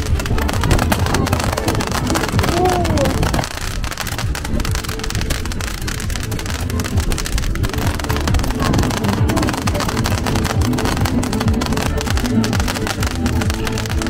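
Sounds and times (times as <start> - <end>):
fireworks crackling: 0.0 - 14.0
music: 0.0 - 14.0.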